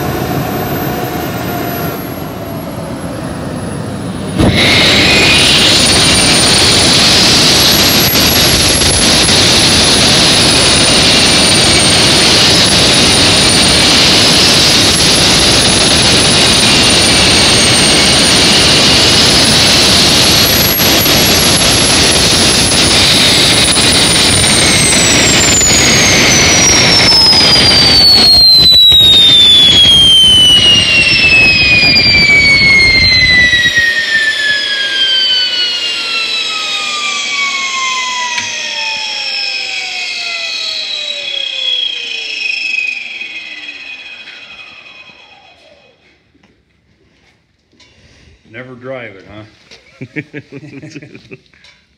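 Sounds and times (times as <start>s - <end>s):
loud rushing roar: 0.0s - 43.5s
turbine engine whine: 0.0s - 47.9s.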